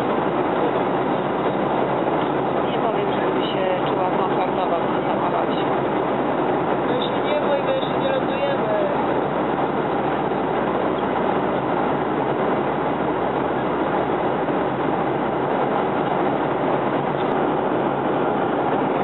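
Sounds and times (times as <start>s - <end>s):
jet cabin engine and airflow noise: 0.0s - 19.0s.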